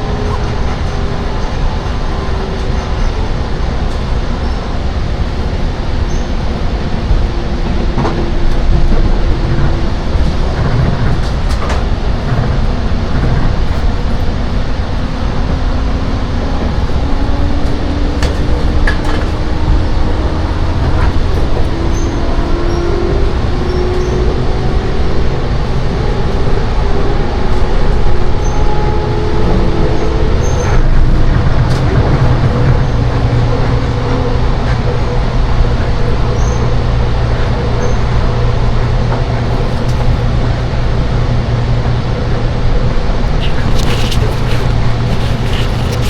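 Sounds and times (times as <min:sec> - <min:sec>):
train running rumble: 0:00.0 - 0:46.0.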